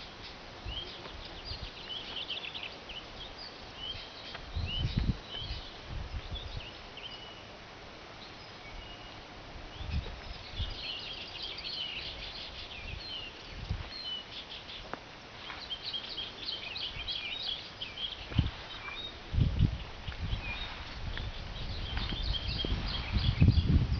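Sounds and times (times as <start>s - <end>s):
songbirds chirping: 0.0s - 23.9s.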